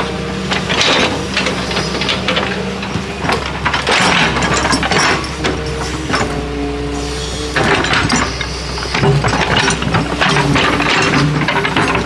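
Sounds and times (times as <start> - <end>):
diesel engine drone: 0.0 - 12.0
hydraulic whine: 0.0 - 12.0.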